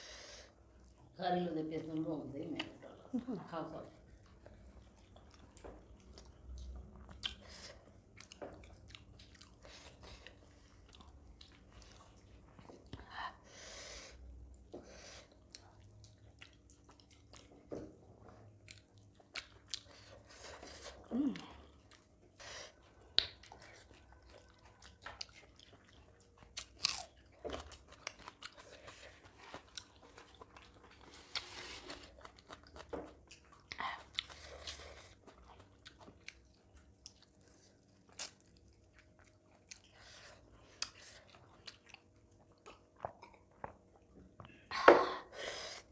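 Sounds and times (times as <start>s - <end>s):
chewing and biting food: 4.0s - 13.0s, 14.5s - 44.5s.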